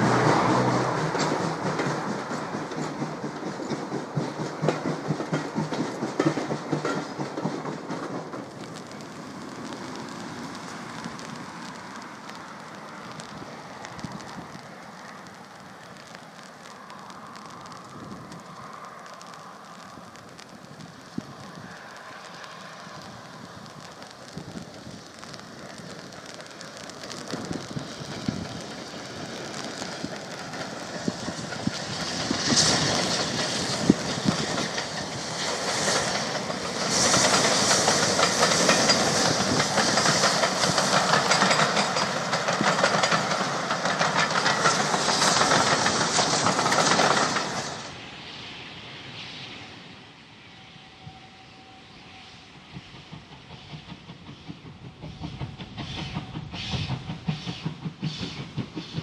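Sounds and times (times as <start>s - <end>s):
wheels clacking over rail joints: 0.0s - 48.0s
distant train: 0.0s - 59.0s
steam locomotive exhaust: 0.0s - 59.0s.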